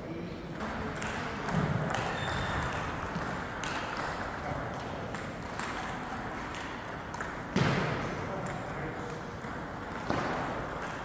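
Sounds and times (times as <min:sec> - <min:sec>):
busy hall noise: 0:00.0 - 0:11.0.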